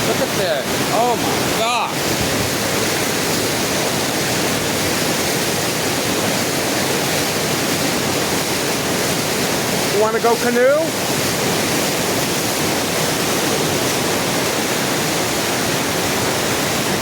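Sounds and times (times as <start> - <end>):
river rushing in flood: 0.0 - 17.0.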